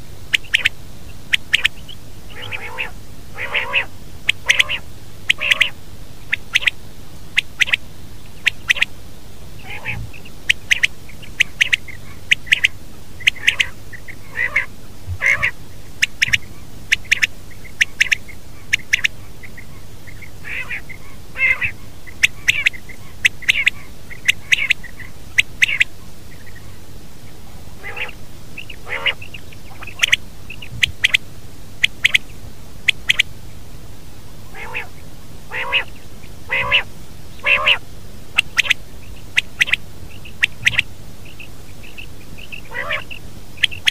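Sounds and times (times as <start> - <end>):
faint low hum: 0.0 - 43.9
quail calling: 0.3 - 8.9, 9.6 - 26.8, 27.8 - 31.2, 31.8 - 33.3, 34.4 - 43.9.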